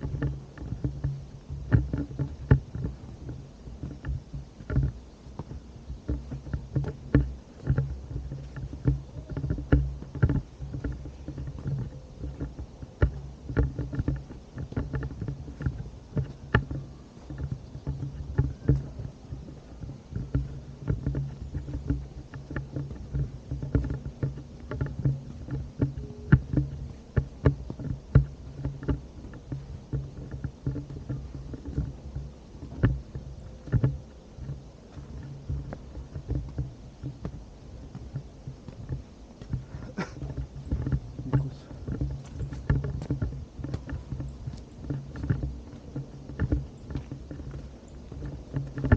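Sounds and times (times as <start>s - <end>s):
steady low hum: 0.0s - 48.9s
walking footsteps: 0.0s - 48.9s.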